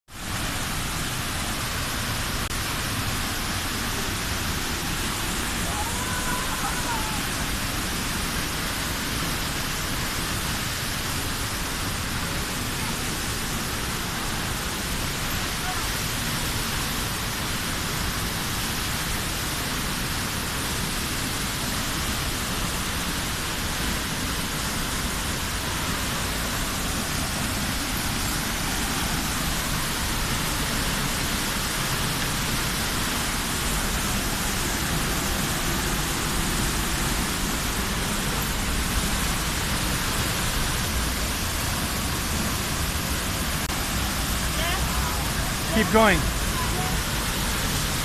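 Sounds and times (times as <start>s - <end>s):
waterfall rushing: 0.1s - 48.0s.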